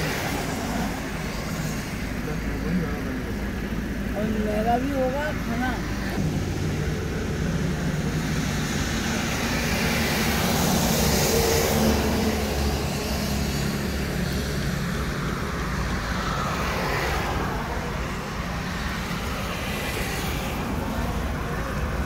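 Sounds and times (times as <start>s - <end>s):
road traffic engine hum: 0.0s - 22.0s.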